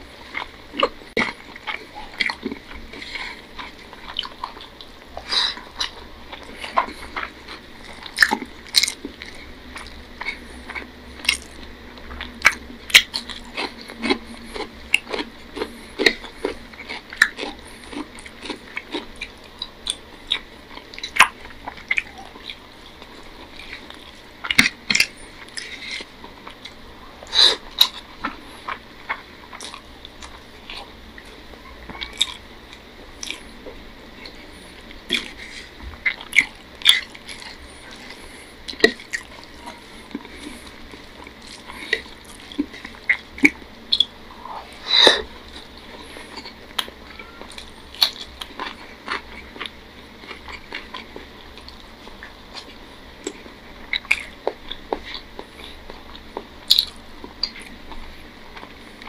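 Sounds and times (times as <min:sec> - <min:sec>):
wet chewing with lip smacks: 0:00.2 - 0:33.5, 0:34.2 - 0:59.0.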